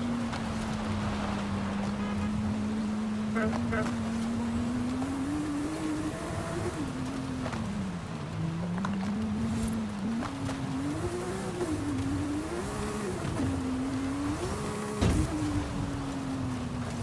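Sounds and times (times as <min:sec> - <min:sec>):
sports car engine revving: 0:00.0 - 0:17.0.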